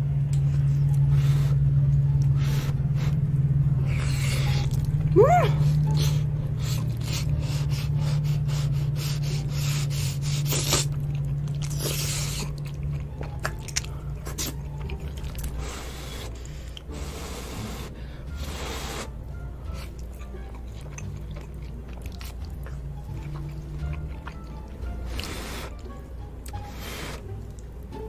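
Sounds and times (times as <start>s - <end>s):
steady low hum: 0.0s - 28.0s
person chewing noodles: 3.8s - 28.0s.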